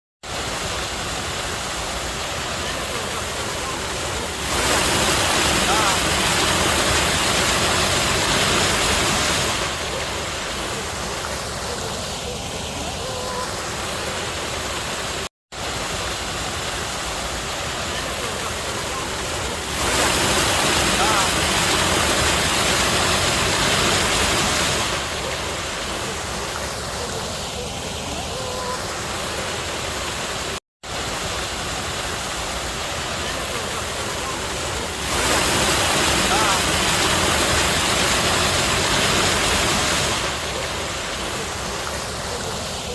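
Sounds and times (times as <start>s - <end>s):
water running and splashing: 0.2s - 42.9s.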